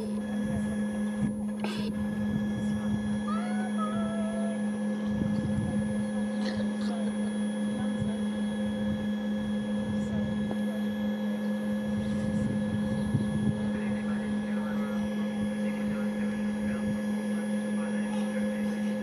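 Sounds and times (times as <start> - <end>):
high machinery whine: 0.0 - 19.0
machinery humming: 0.0 - 19.0.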